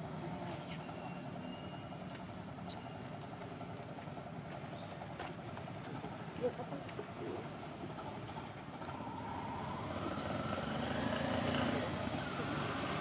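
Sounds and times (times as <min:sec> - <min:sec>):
distant motor rumble: 0:00.0 - 0:13.0.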